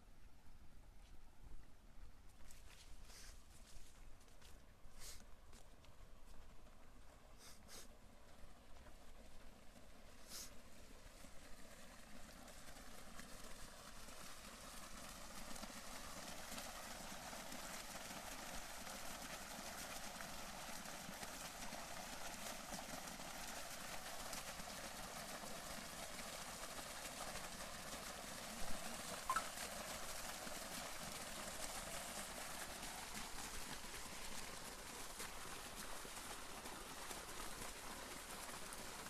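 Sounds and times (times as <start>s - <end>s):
water gushing from a pipe: 7.2s - 39.0s.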